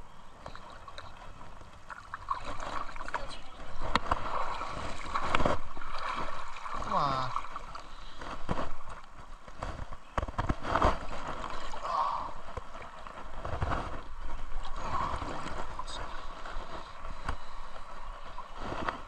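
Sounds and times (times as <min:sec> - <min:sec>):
creek water gurgling: 0:00.0 - 0:09.6, 0:10.6 - 0:19.0.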